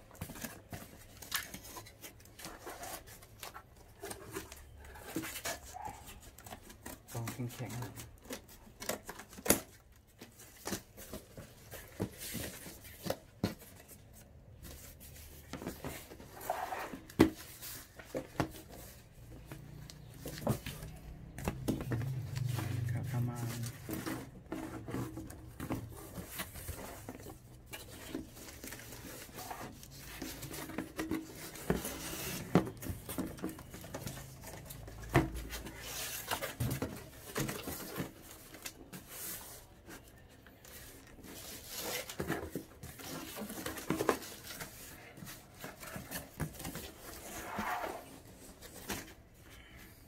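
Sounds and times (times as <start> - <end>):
cardboard box being handled: 6.4 - 49.4.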